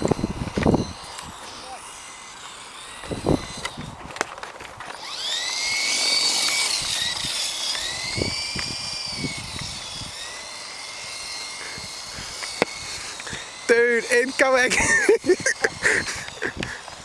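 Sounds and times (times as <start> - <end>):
toy helicopter motor whine: 0.0 - 17.0.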